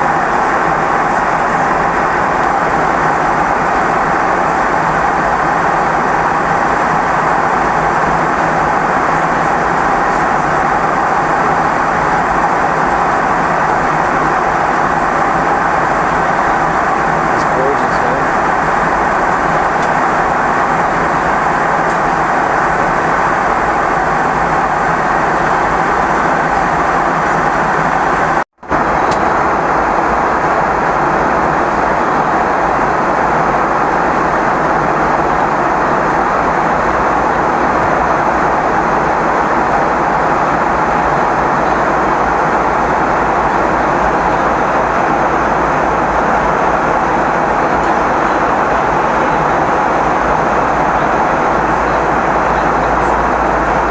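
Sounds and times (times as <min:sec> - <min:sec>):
aircraft cabin roar in flight: 0:00.0 - 0:53.9.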